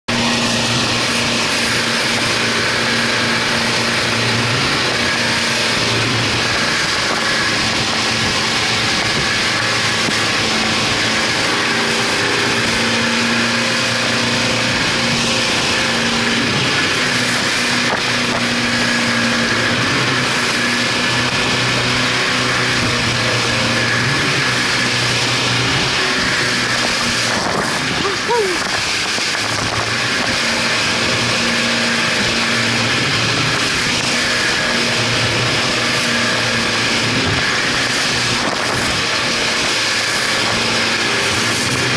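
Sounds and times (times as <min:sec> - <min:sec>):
boat pounding through rough water: 0:00.0 - 0:41.9
outboard motors running at high speed: 0:00.0 - 0:41.9
wind and spray on microphone: 0:00.1 - 0:41.9.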